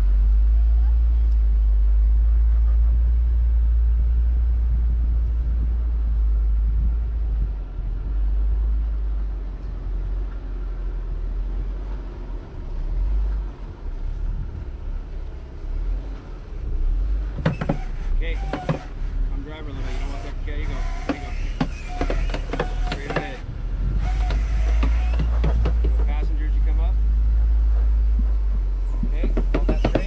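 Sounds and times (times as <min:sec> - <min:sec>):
engine deep rumble: 0:00.0 - 0:30.0.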